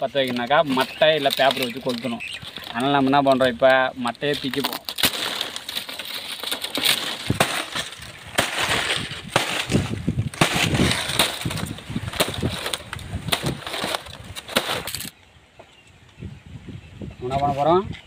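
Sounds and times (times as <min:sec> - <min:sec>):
dry palm fronds tearing and snapping: 0:00.2 - 0:15.2.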